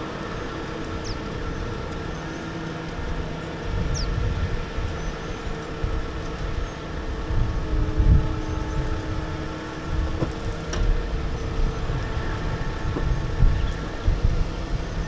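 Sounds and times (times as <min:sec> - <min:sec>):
truck engine running: 0:00.0 - 0:15.0
wind buffeting microphone: 0:00.0 - 0:15.0.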